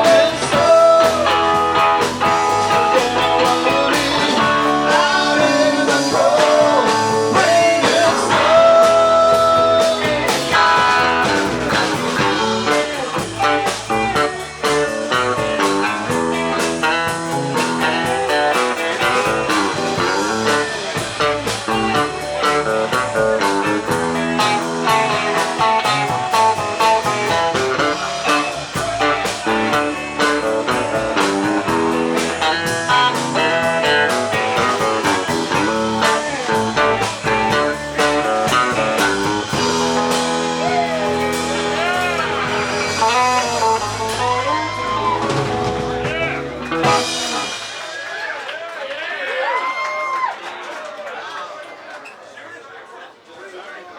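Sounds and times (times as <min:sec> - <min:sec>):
electric guitar solo: 0:00.0 - 0:47.7
bass guitar: 0:00.0 - 0:47.9
rhythm guitar: 0:00.0 - 0:48.3
drums: 0:00.0 - 0:51.1.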